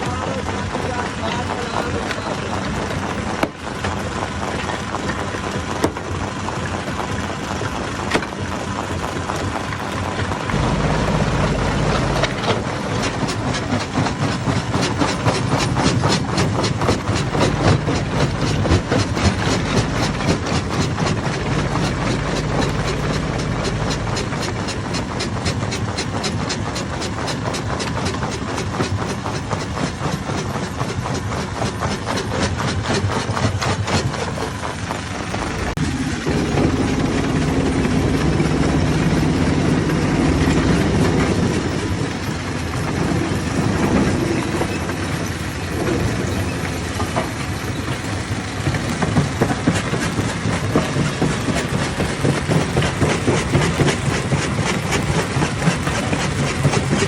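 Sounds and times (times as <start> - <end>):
crusher machine hum: 0.0 - 57.0
rock clattering in crusher: 0.1 - 57.0.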